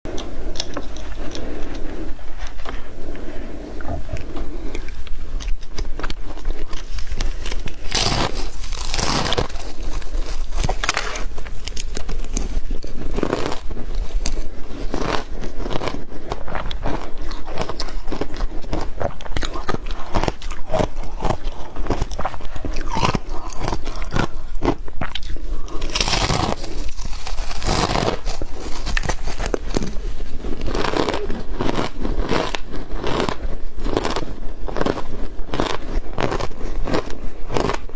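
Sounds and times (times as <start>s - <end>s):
chewing crunchy snow: 0.1s - 37.9s.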